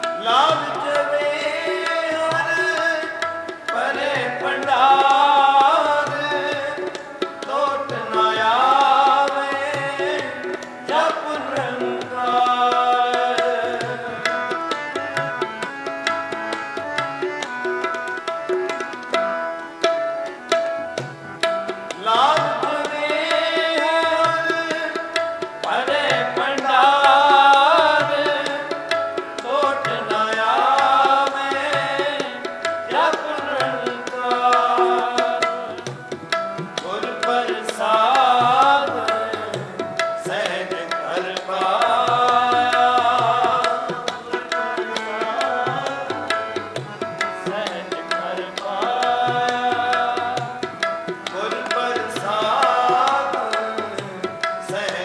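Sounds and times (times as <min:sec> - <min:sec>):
man singing: 0:00.0 - 0:17.0, 0:21.9 - 0:55.0
harmonium chords: 0:00.0 - 0:55.0
tabla beat: 0:00.0 - 0:55.0.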